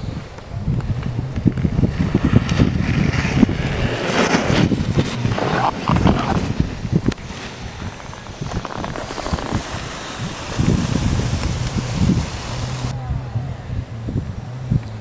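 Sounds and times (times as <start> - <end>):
snowboards carving on snow: 0.0 - 13.0
wind buffeting microphone: 0.0 - 15.0.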